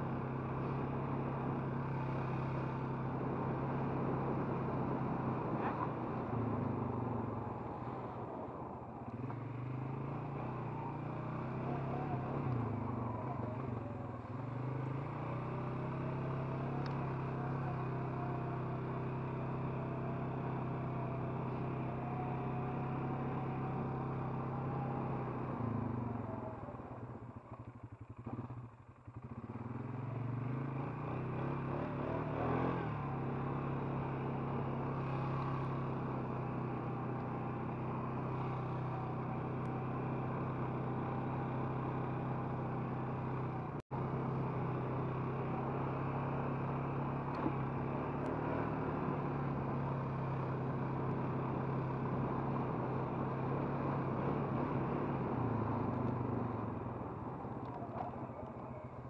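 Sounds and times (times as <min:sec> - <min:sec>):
four-wheeler engine running: 0:00.0 - 0:59.0.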